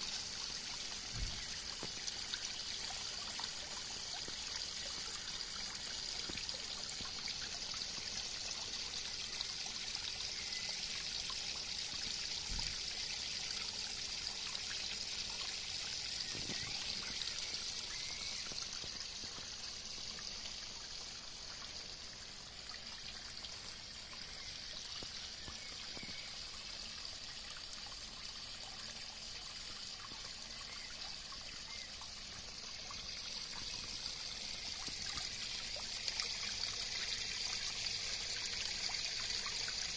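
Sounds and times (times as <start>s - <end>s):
water stream trickling into pond: 0.0s - 39.9s.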